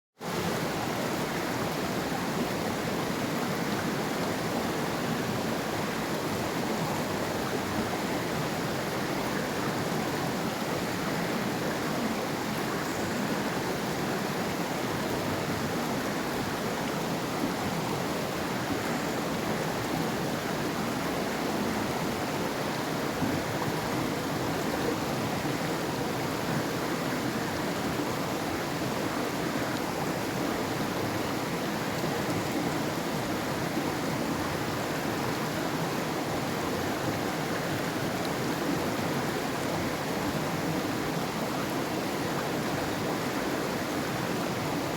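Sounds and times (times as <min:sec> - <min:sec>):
river water rushing over rocks: 0:00.2 - 0:44.9.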